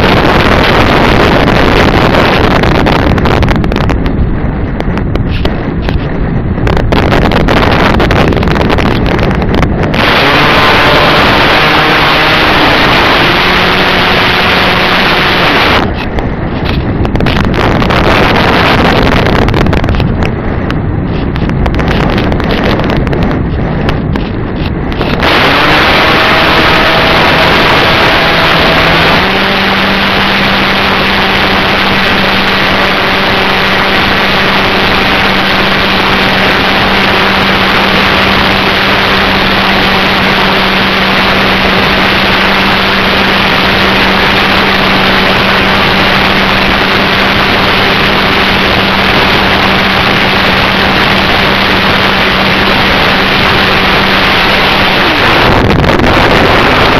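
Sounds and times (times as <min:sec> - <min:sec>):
propeller motor hum: 0:00.0 - 0:56.9
wind noise on microphone: 0:00.0 - 0:56.9.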